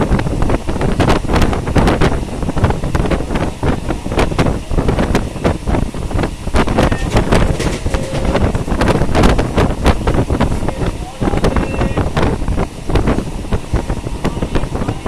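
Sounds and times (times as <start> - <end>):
train rumble: 0.0 - 15.0
wind buffeting microphone: 0.0 - 15.0
wheels clattering on track: 0.9 - 15.0.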